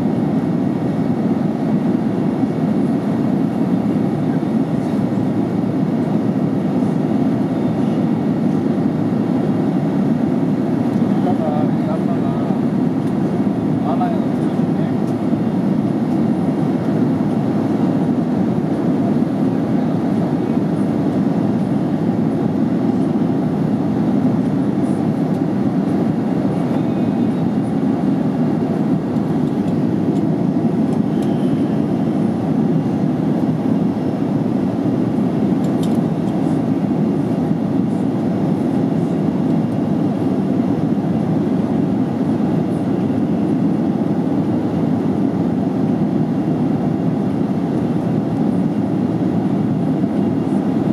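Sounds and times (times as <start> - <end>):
jet airliner cabin rumble: 0.0 - 50.9.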